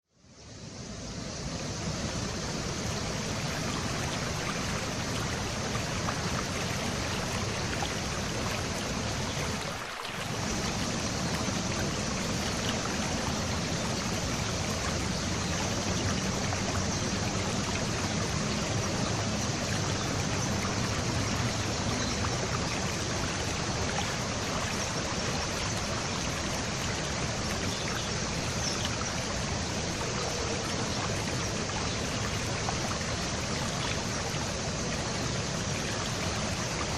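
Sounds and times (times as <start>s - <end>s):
stream water flowing: 0.2s - 36.9s.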